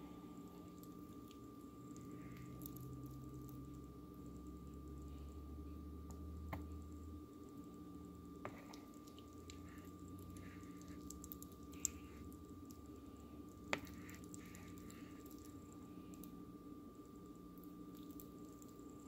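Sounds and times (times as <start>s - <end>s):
soft wet squishes of pasta: 0.0s - 19.0s
steady low hum: 0.0s - 19.0s.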